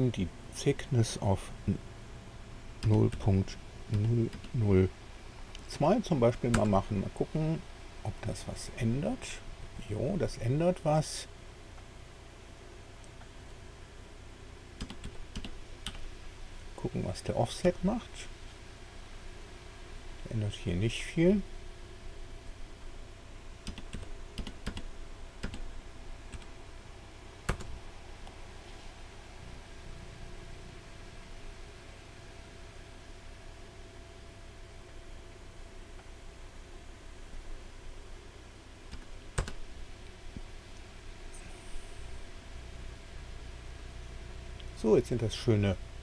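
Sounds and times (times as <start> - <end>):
faint low hum and hiss: 0.0 - 46.0.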